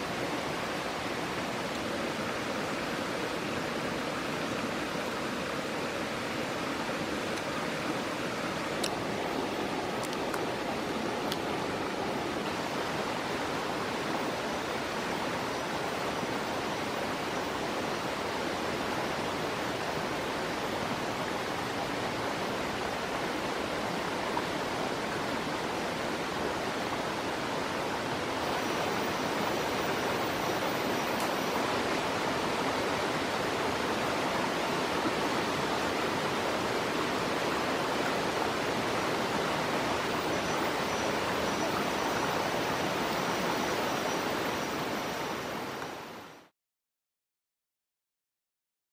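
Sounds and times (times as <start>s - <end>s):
stream rushing over rocks: 0.0s - 46.5s.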